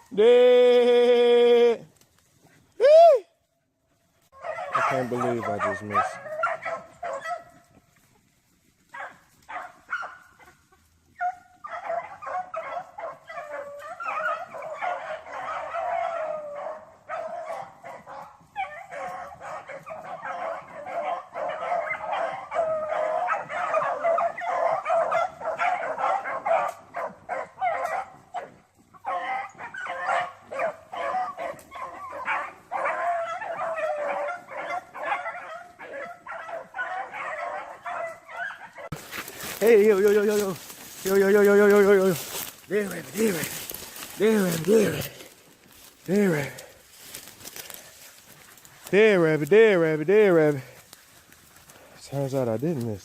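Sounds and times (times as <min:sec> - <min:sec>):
hounds baying and yipping: 0:03.9 - 0:53.0.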